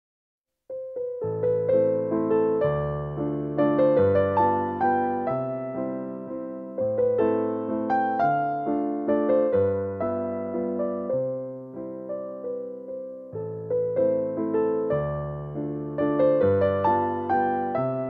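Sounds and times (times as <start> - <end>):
slow piano music: 0.7 - 18.0.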